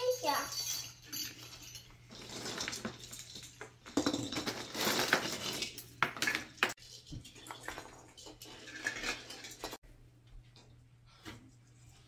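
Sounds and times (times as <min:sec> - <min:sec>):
ornaments clinking and rattling: 0:00.0 - 0:09.8.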